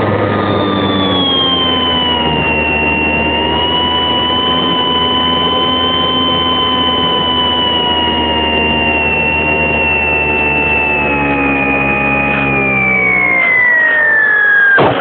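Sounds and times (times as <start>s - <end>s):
electric motor and propeller whine: 0.0s - 15.0s.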